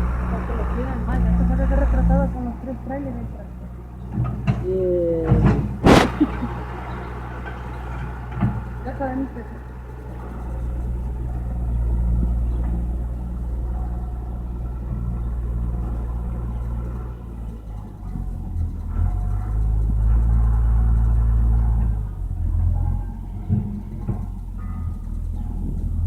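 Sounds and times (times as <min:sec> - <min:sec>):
tractor engine rumbling: 0:00.0 - 0:26.0.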